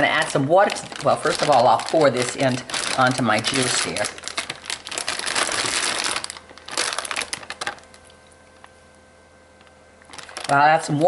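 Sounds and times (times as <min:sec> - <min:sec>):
plastic bag crinkling: 0:00.0 - 0:08.8, 0:09.6 - 0:11.0.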